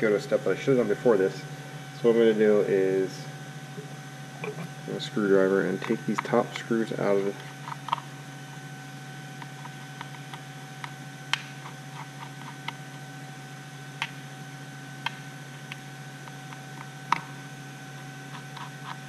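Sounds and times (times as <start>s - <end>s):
steady hum with faint high tone: 0.0s - 19.0s.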